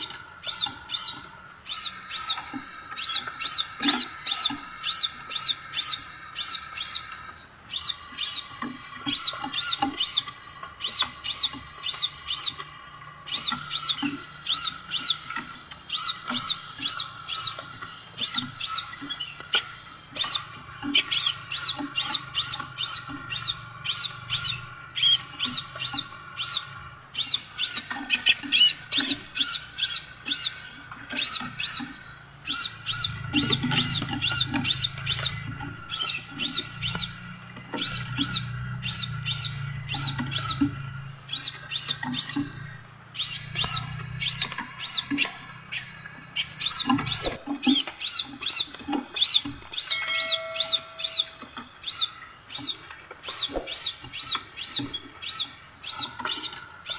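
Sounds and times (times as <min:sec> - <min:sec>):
bird chirping high and sharp: 0:00.0 - 0:56.9.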